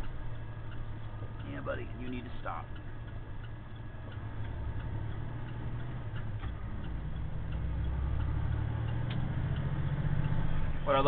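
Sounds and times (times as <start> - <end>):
diesel truck engine rumbling: 0.0 - 11.0
turn signal ticking: 0.0 - 11.0.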